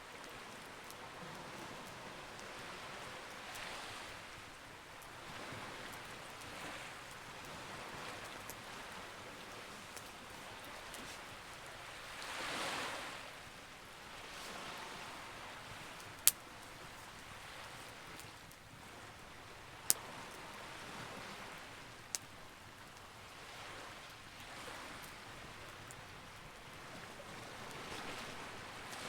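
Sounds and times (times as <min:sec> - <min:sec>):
campfire crackling: 0:00.0 - 0:29.0
waves washing: 0:00.0 - 0:29.0.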